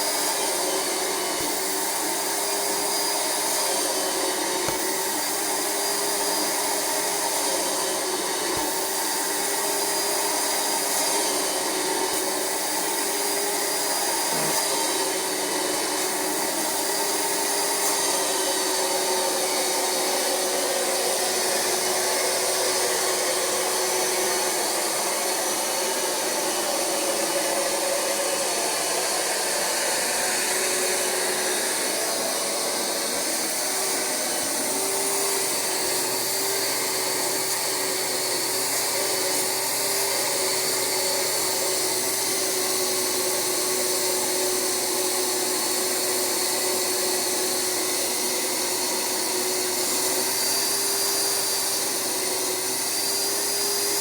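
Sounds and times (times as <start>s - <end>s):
vacuum motor running: 0.0s - 54.0s.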